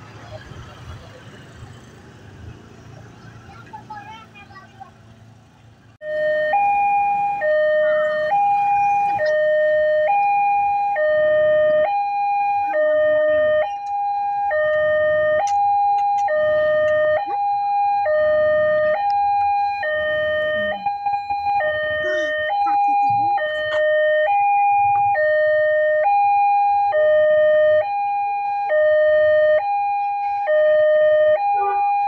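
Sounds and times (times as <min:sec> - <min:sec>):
level crossing alarm two tones: 0:06.0 - 0:32.0.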